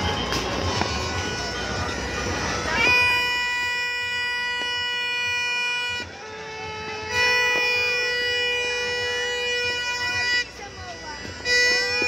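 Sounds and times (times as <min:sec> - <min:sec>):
horns blowing held notes: 0:00.0 - 0:12.0.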